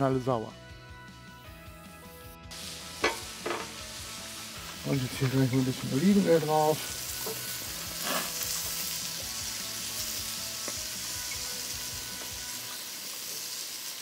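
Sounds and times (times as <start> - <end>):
food sizzling on grill: 2.0 - 14.0.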